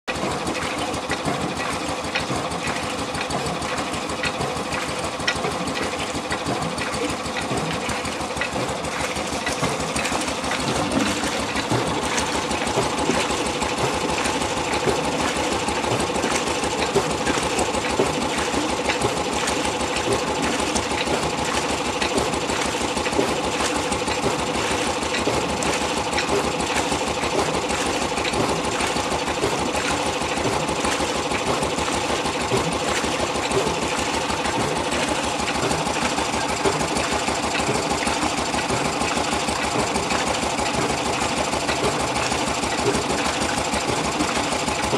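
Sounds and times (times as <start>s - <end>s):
water pump mechanical clatter: 0.0s - 44.9s
stationary engine running: 0.1s - 44.9s
water splashing into a tub: 0.1s - 44.9s.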